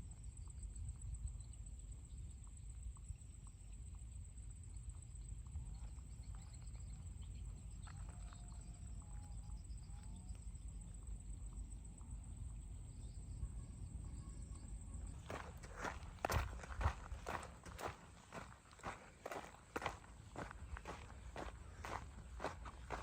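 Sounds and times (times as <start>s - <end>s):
faint chirps: 0.4s - 23.0s.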